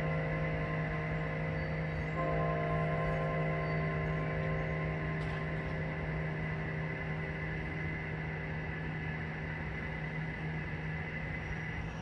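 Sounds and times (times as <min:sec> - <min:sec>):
faint high ringing tone: 0:00.0 - 0:12.0
steady low hum: 0:00.0 - 0:12.0.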